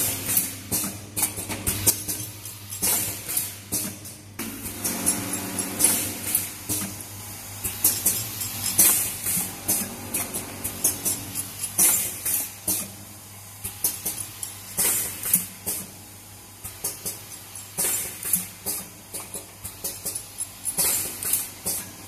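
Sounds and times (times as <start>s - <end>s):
machine mechanism clicking and clacking: 0.0s - 7.0s, 7.6s - 13.0s, 13.6s - 16.0s, 16.6s - 22.0s.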